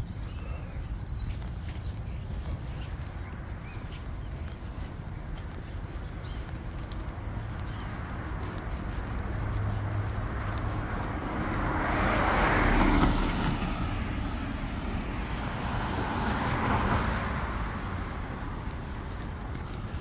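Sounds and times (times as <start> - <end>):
cars passing: 0.0 - 20.0.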